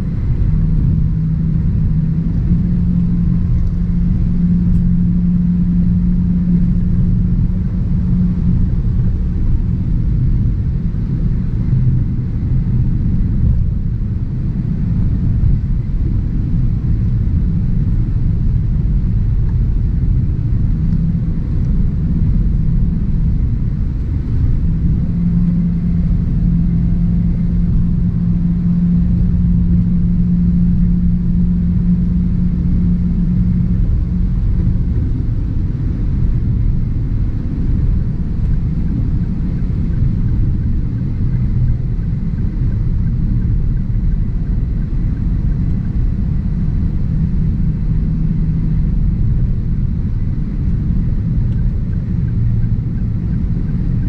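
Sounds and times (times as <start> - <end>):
car engine and road noise drone: 0.0 - 54.0
steady low hum: 0.0 - 54.0.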